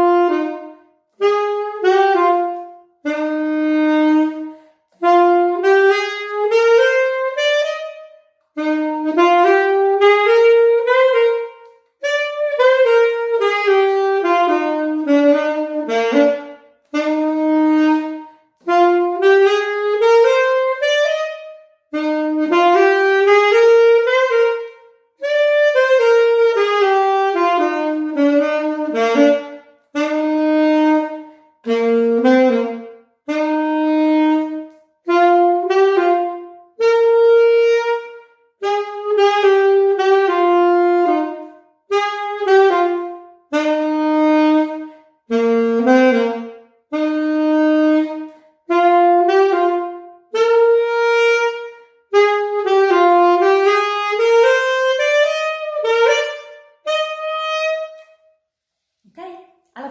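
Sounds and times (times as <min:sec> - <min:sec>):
alto saxophone solo: 0:00.0 - 0:59.9.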